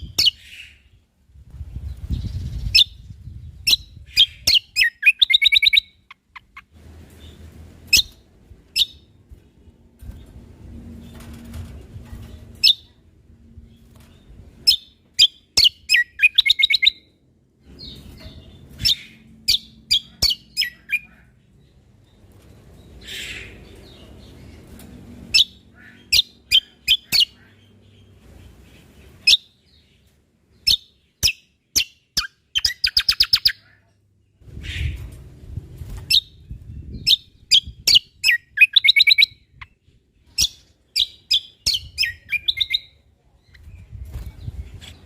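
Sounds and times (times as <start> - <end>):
songbird chirping: 0.0 - 10.4, 11.1 - 35.1, 36.1 - 45.0.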